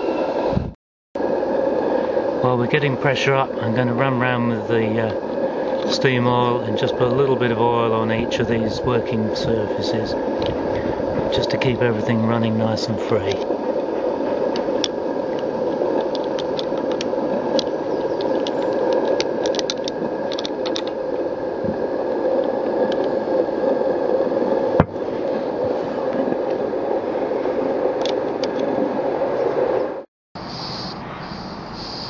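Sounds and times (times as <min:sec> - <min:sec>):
gas burners hissing: 0:01.2 - 0:29.8.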